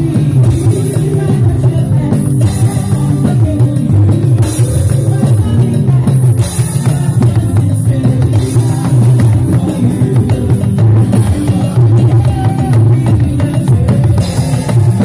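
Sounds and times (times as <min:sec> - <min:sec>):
live band music: 0:00.0 - 0:15.0
talking drum: 0:00.0 - 0:15.0.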